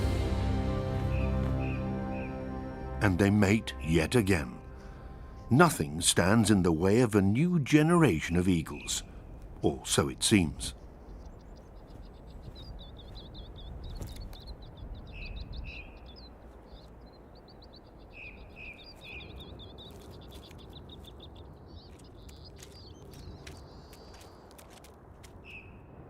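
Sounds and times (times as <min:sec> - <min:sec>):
birds chirping: 0:00.0 - 0:26.0
low falling bird notes: 0:00.0 - 0:26.0.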